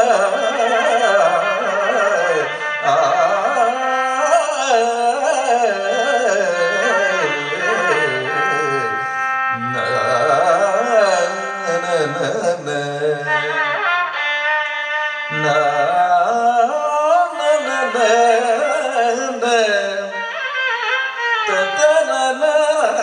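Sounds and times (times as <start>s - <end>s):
man singing ornamented phrases: 0.0s - 13.9s, 15.3s - 20.3s, 21.5s - 23.0s
violin accompaniment: 0.0s - 23.0s.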